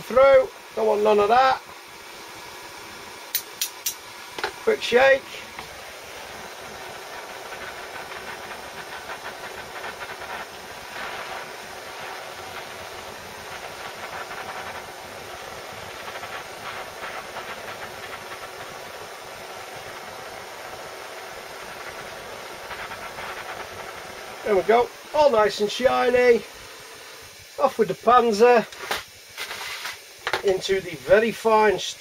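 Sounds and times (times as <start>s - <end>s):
blowtorch flame hissing: 0.0s - 32.0s.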